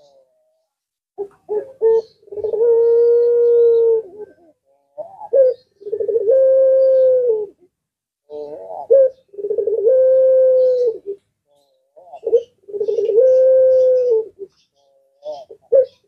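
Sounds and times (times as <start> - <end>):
dove cooing: 0.0 - 7.7, 8.3 - 11.3, 11.9 - 16.0.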